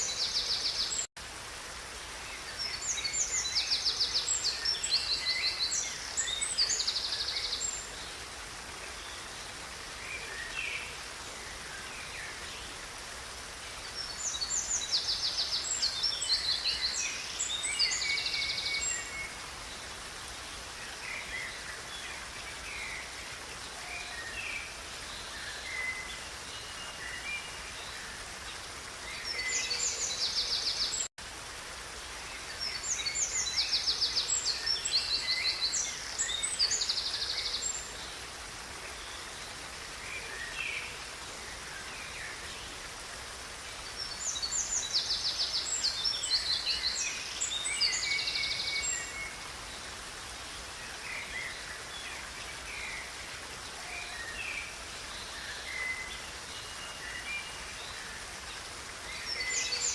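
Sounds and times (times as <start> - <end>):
river rushing: 0.0 - 59.9
songbirds singing: 0.0 - 59.9.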